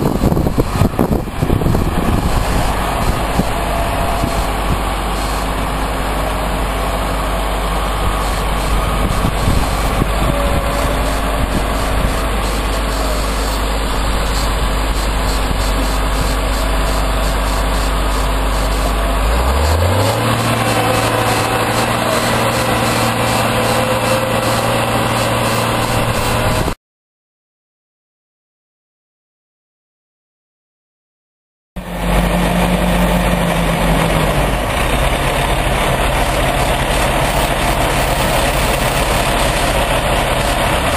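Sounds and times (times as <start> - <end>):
diesel engine running: 0.0 - 26.8, 31.8 - 40.9.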